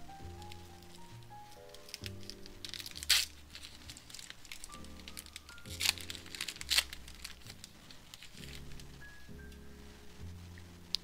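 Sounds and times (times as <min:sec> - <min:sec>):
background music: 0:00.0 - 0:11.0
foil wrapper tearing and crinkling: 0:00.2 - 0:09.1.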